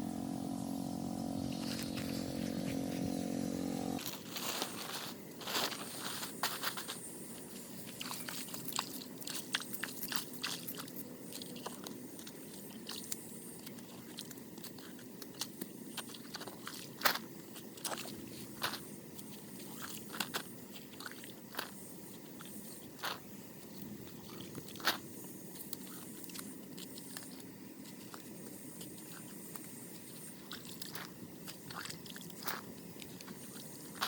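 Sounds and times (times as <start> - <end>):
motor hum: 0.0 - 34.0.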